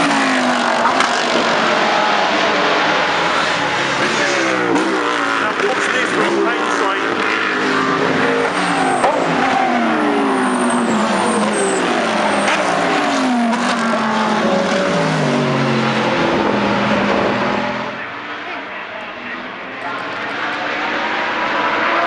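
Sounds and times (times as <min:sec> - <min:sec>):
race cars passing at high revs: 0:00.0 - 0:22.0.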